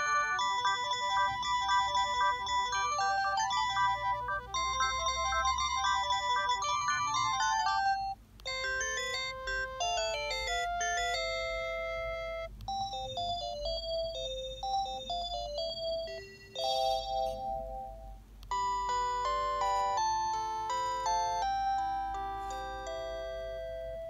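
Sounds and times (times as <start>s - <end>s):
electronic melody ringtones: 0.0s - 24.0s.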